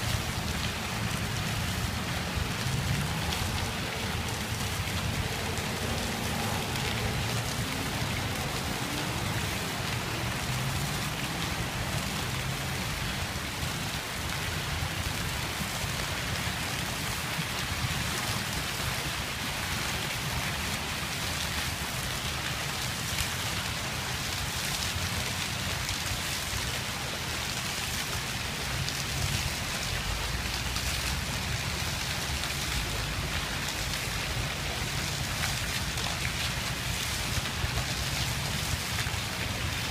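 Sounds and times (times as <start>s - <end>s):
fountain water splashing into pool: 0.0s - 39.9s.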